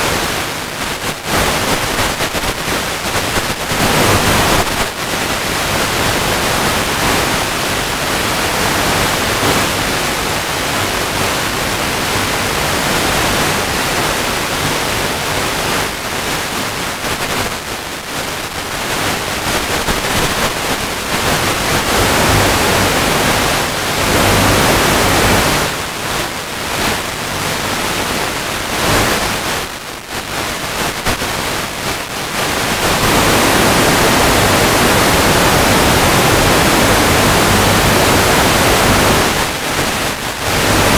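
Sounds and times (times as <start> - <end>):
static hiss: 0.0 - 40.9.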